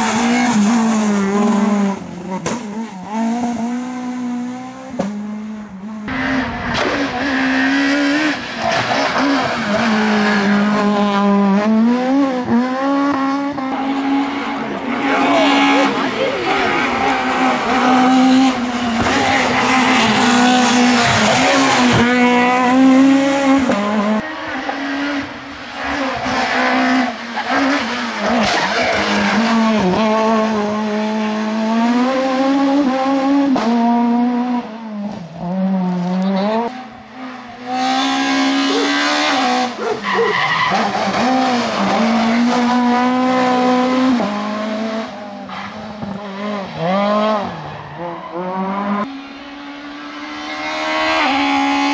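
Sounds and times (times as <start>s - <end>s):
rally car engines at full throttle: 0.0s - 51.9s.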